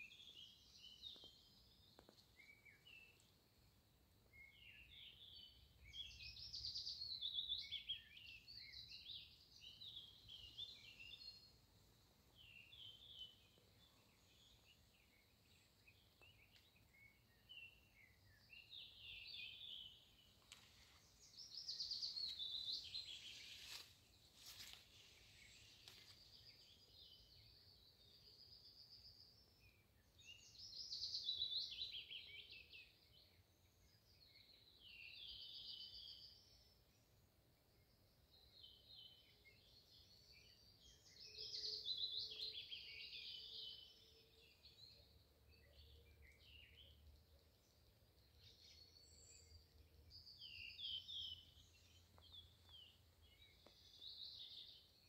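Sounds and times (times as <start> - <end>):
faint forest ambience: 0.0 - 55.0
songbird chirping and trilling: 0.0 - 55.0.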